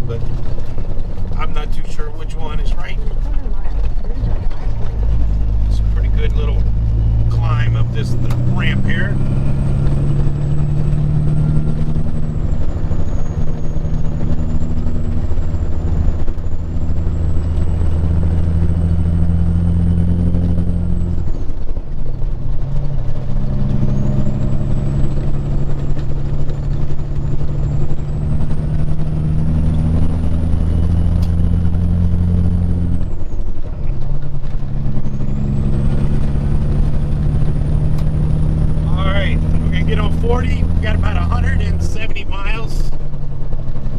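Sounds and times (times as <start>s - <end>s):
diesel truck engine pulling hard: 0.0s - 43.9s
high engine whine: 0.0s - 43.9s.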